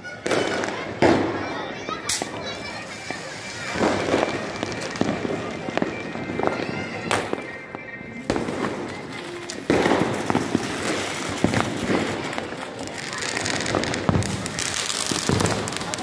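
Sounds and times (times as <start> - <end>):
firecrackers crackling: 0.0 - 16.0
firework bangs: 0.1 - 16.0.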